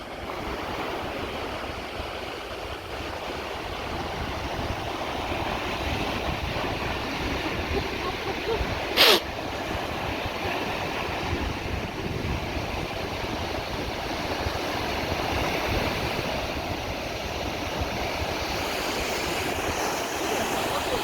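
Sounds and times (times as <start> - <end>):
sea surf washing in: 0.0 - 21.0
wind on microphone: 0.0 - 21.0.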